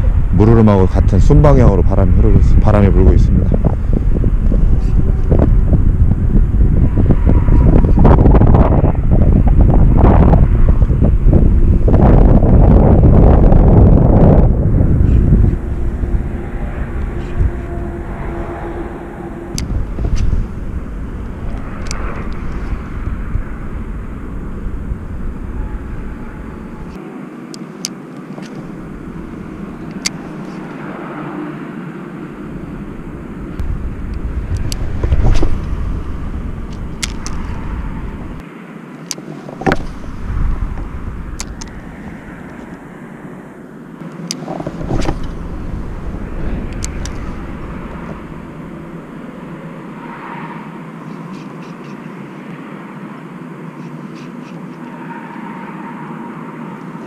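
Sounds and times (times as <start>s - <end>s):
wind buffeting microphone: 0.0s - 27.0s, 28.4s - 31.2s, 32.1s - 38.4s, 39.4s - 51.9s.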